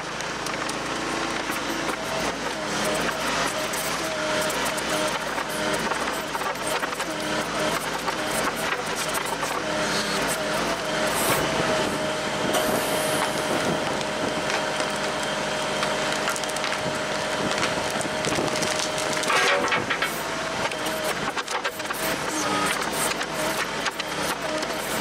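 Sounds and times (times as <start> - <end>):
wood creaking and cracking: 0.0 - 10.8, 13.2 - 25.0
diesel engine working under load: 0.0 - 25.0
hydraulic whine: 0.0 - 25.0.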